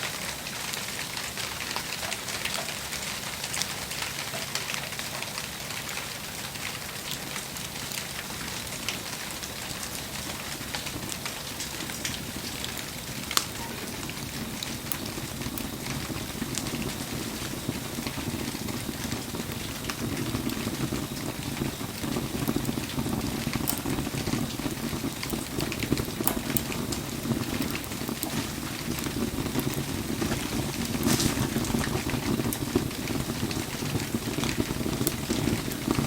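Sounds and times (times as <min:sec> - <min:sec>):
rain patter: 0:00.0 - 0:36.0
wood fire crackling and popping: 0:00.0 - 0:36.0.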